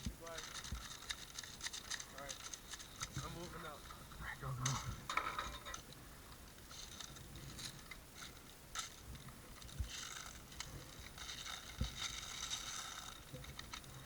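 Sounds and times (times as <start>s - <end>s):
gear rustling and clicking: 0.0s - 14.0s.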